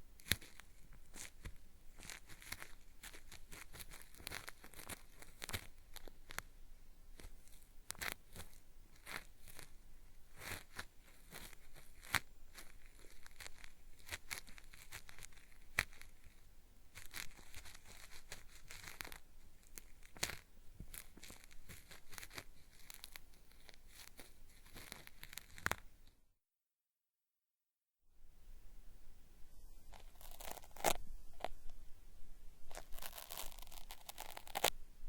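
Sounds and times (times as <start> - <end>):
cotton swab scratching in microphone ear: 0.2 - 6.5, 7.1 - 25.9, 29.9 - 31.8, 32.7 - 34.8.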